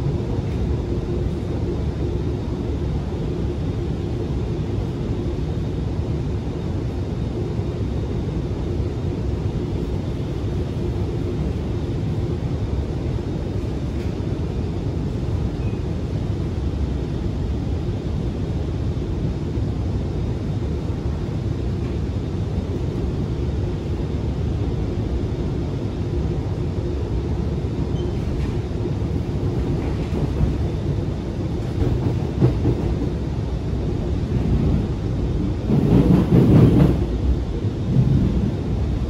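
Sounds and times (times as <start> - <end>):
metro train rumbling: 0.0 - 39.0.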